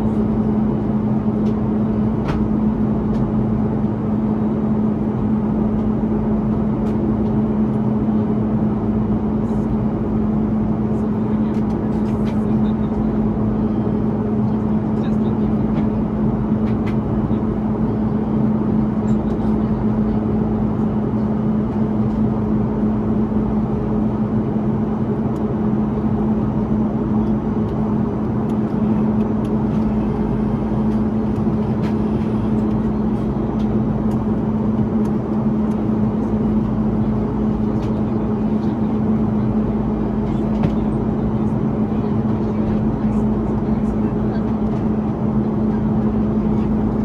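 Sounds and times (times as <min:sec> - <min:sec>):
airplane cabin engine rush: 0:00.0 - 0:47.0
low hum: 0:00.0 - 0:47.0.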